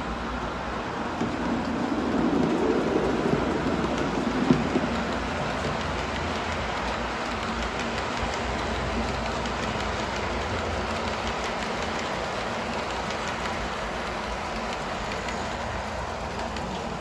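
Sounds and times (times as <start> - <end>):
model train wheels on rail: 0.0 - 17.0.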